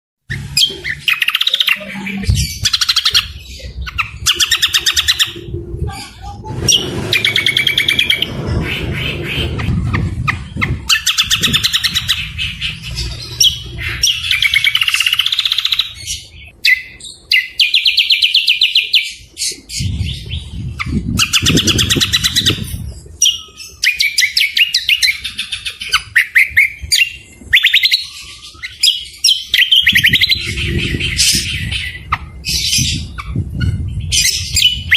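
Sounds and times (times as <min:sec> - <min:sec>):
songbirds trilling and chattering: 0:00.3 - 0:34.9.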